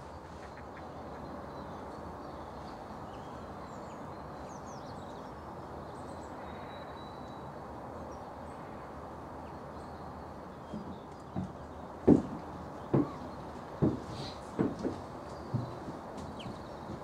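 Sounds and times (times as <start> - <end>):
low outdoor background noise: 0.0 - 17.0.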